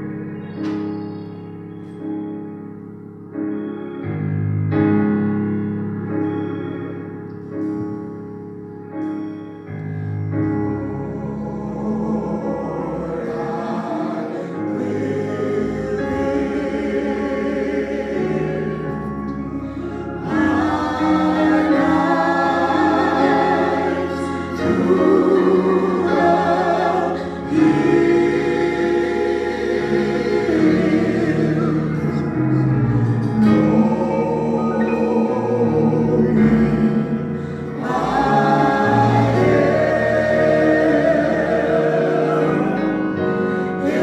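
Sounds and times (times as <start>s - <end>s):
keyboard accompaniment: 0.0s - 44.0s
choir singing a hymn: 6.1s - 44.0s.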